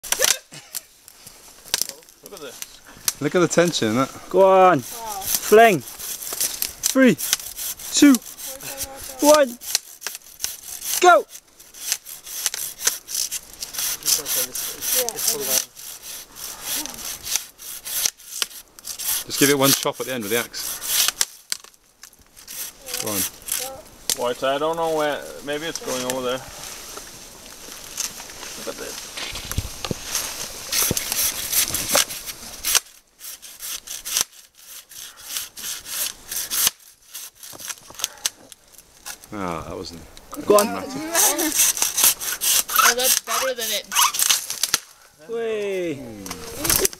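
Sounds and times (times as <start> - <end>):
hand saw cutting branch: 1.6 - 26.4, 27.7 - 39.2, 40.4 - 45.0, 46.2 - 46.9.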